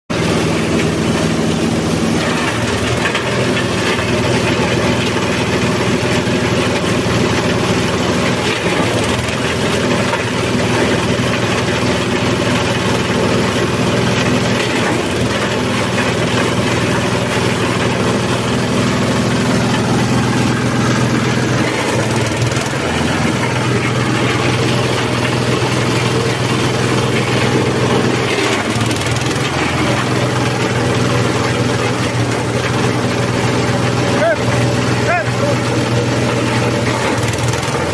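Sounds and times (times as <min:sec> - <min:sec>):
grass chopper engine running: 0:00.1 - 0:37.9.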